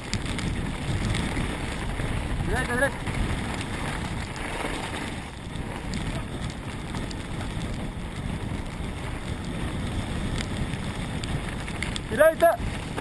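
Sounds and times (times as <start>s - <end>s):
bike clicks and knocks: 0.0s - 12.2s
mountain bike rumbling and rattling: 0.0s - 13.0s
wind buffeting microphone: 0.0s - 13.0s.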